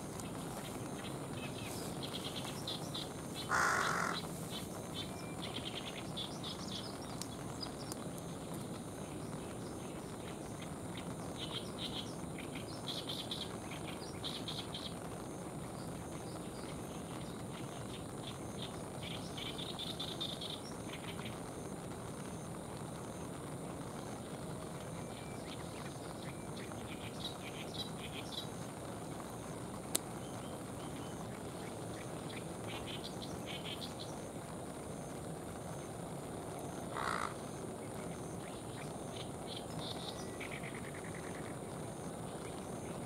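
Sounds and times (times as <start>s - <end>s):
outdoor hiss: 0.0s - 43.0s.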